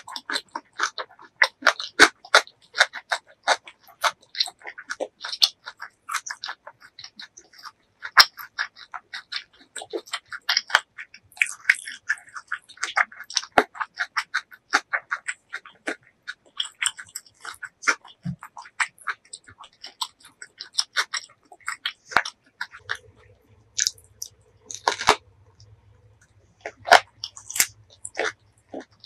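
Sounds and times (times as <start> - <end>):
close chewing with wet smacks: 0.0 - 29.0.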